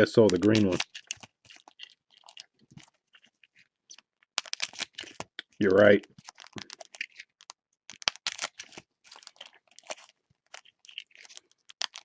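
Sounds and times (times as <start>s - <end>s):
card wrappers rustling and crinkling: 0.0s - 12.0s.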